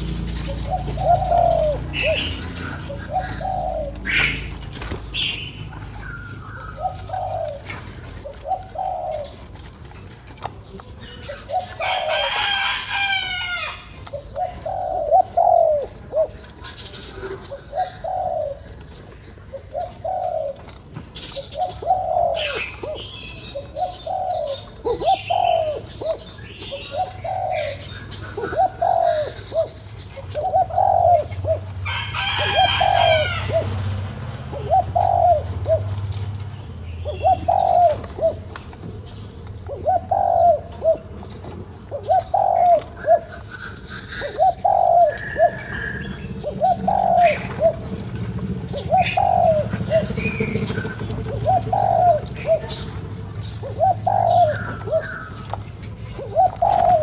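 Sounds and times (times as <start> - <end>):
dove cooing: 0.0 - 57.0
small birds chirping: 0.0 - 57.0.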